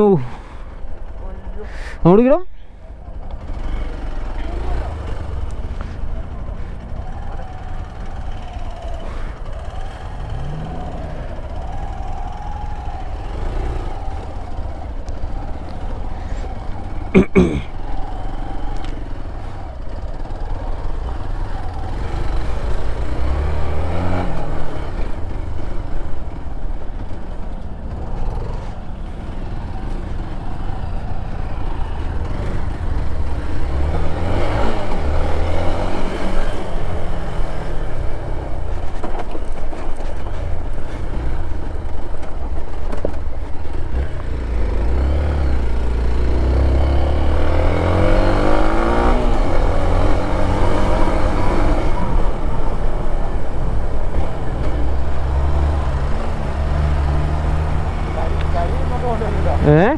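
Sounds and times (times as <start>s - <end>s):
vehicle engine revving: 3.2s - 59.9s.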